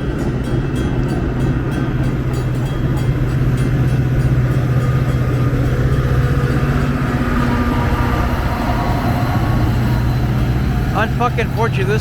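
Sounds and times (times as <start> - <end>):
diesel locomotive humming: 0.0 - 12.0.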